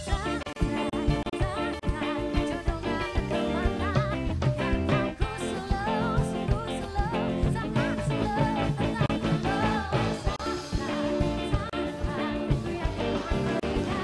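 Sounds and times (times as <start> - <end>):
drums: 0.0 - 14.0
electric bass: 0.0 - 14.0
keyboards: 0.0 - 14.0
woman singing into a microphone: 0.0 - 14.0.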